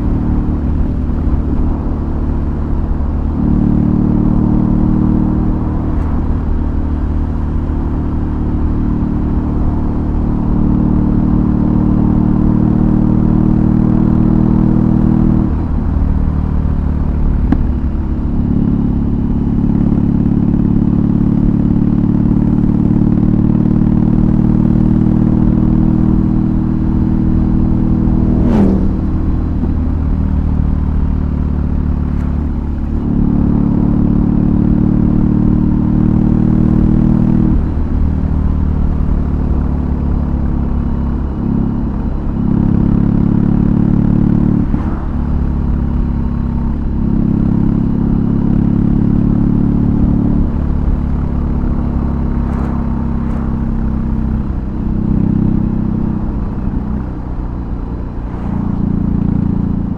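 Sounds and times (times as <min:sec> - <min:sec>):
motorcycle engine riding: 0:00.0 - 0:59.9.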